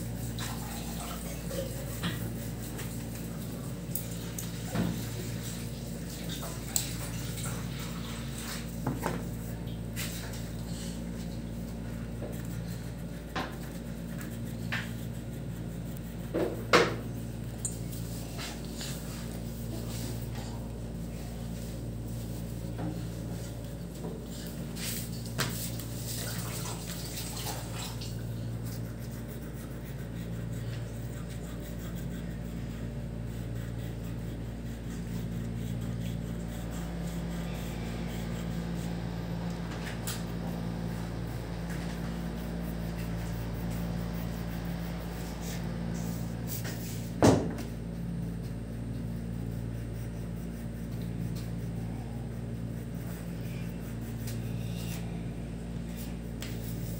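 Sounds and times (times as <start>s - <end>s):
crayon scratching on paper: 0.0s - 4.1s, 7.8s - 26.1s, 28.2s - 56.9s
steady low hum: 0.0s - 56.9s.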